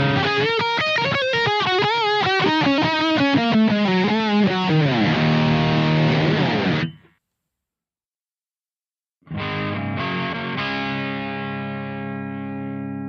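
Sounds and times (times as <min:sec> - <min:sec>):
distorted electric guitar lead: 0:00.0 - 0:07.1, 0:09.3 - 0:13.0.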